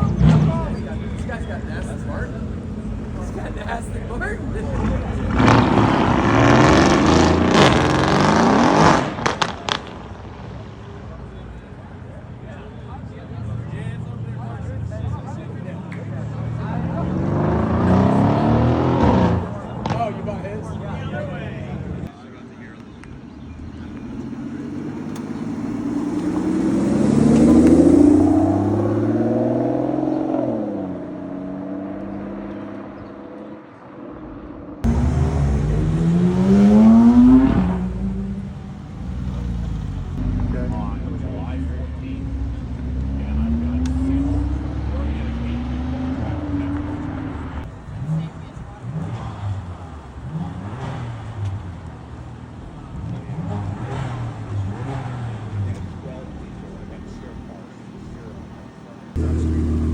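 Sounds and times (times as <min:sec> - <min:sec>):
exhaust pops: 0:00.0 - 0:11.8, 0:17.6 - 0:22.1, 0:22.7 - 0:30.4, 0:34.8 - 0:59.9
sports car engine revving: 0:00.0 - 0:22.1, 0:23.0 - 0:59.9.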